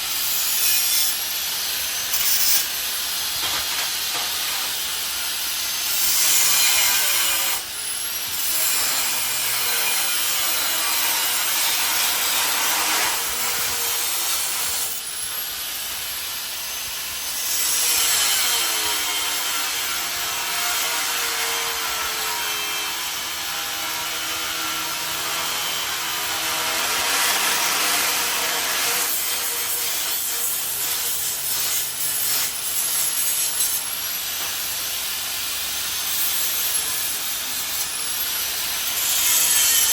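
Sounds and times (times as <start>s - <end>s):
power tool grinding steel: 0.0s - 39.9s.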